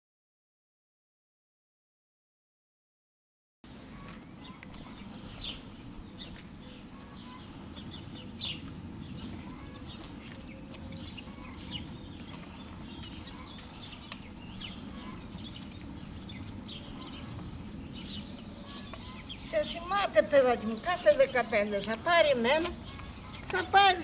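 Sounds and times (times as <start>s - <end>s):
low outdoor rumble: 3.7s - 24.0s
small birds chirping: 3.7s - 24.0s.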